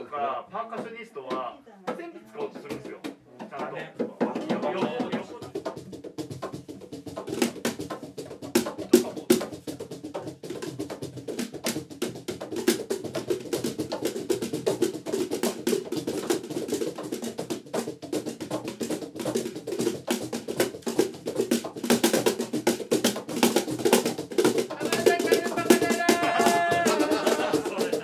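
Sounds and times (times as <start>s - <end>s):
cajon drumming: 0.0s - 28.0s.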